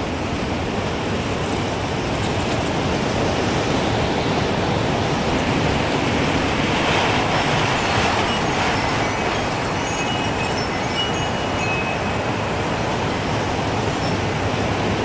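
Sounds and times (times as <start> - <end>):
gusting wind hiss: 0.0 - 15.0.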